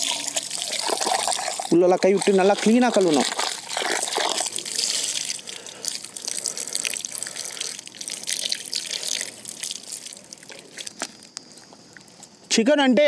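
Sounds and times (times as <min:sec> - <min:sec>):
water splashing and dripping: 0:00.0 - 0:11.3.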